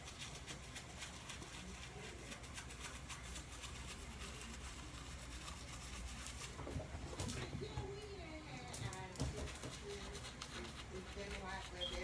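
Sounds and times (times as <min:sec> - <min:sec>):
toothbrush scrubbing teeth: 0:00.0 - 0:07.8, 0:08.4 - 0:12.0.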